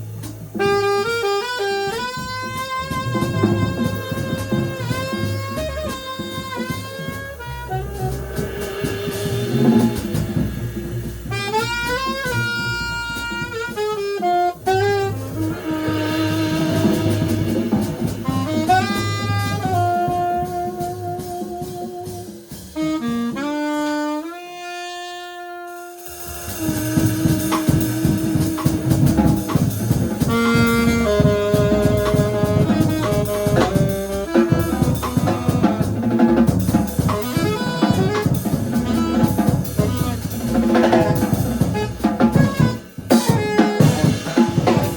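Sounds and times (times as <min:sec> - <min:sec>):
alto saxophone melody: 0:00.0 - 0:44.9
bass: 0:00.0 - 0:44.9
drum kit: 0:00.0 - 0:44.9.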